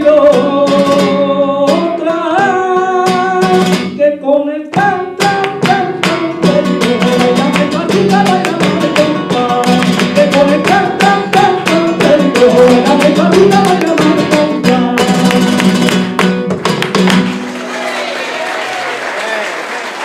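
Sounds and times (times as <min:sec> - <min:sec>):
flamenco guitar strumming: 0:00.0 - 0:17.6.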